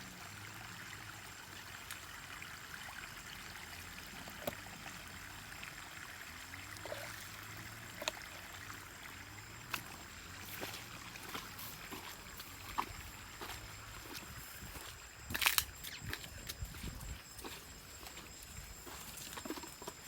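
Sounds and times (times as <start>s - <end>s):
stream water running: 0.0s - 20.0s.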